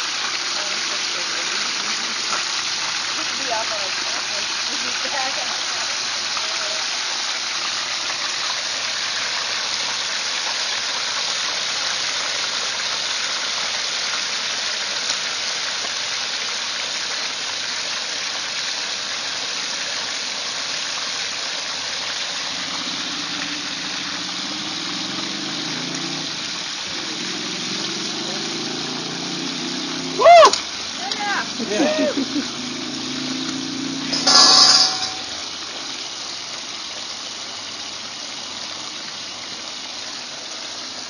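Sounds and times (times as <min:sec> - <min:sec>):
oil sizzling and bubbling: 0:00.0 - 0:41.0.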